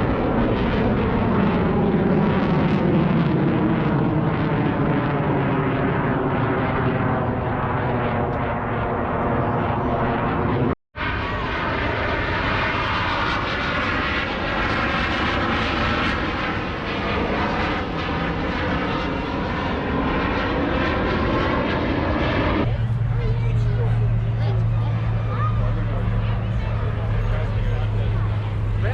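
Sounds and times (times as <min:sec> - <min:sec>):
aircraft engine drone: 0:00.0 - 0:28.9.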